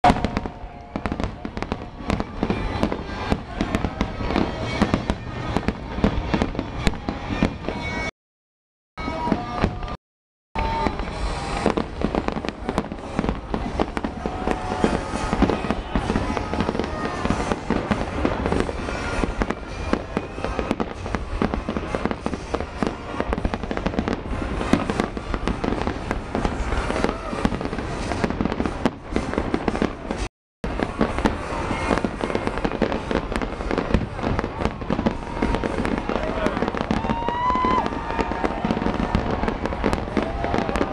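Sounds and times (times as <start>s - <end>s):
fireworks bangs and crackles: 0.0s - 8.1s, 9.0s - 10.0s, 10.6s - 40.9s.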